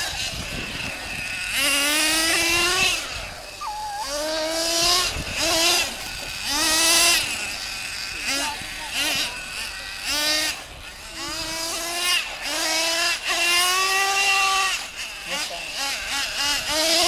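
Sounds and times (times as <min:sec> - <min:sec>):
toy truck engines revving: 0:00.0 - 0:17.0.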